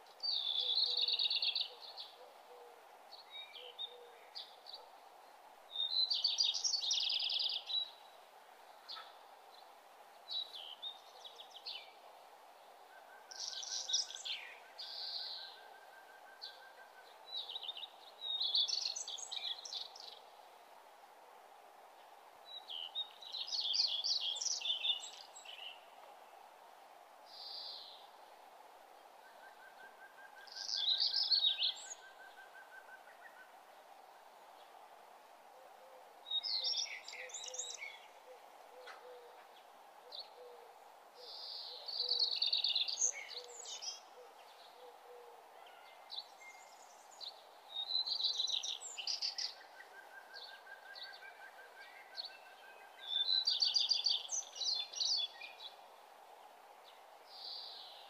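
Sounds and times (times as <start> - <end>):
faint background noise: 0.0 - 58.0
songbird chirping: 0.0 - 58.0.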